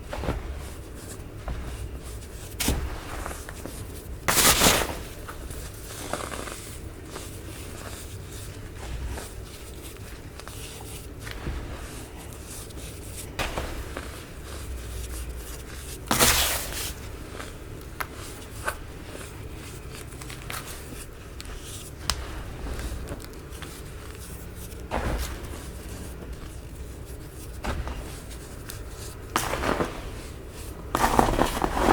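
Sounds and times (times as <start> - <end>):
baking soda crunching by hand: 0.2 - 31.9.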